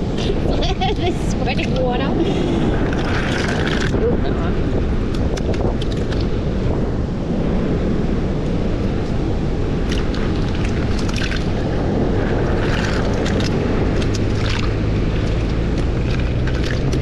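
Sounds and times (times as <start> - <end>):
surf wash: 0.0 - 17.0
wind noise on microphone: 0.0 - 17.0.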